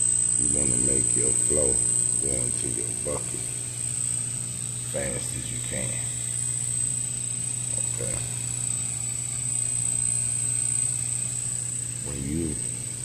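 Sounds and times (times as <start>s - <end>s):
high-pitched whine: 0.0s - 13.0s
low electrical hum: 0.0s - 13.0s.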